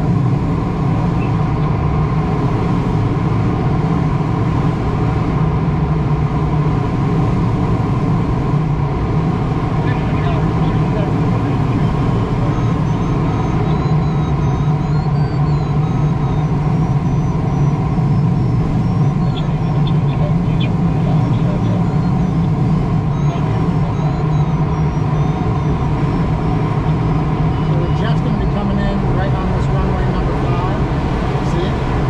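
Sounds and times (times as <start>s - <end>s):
air rushing around cockpit: 0.0s - 32.0s.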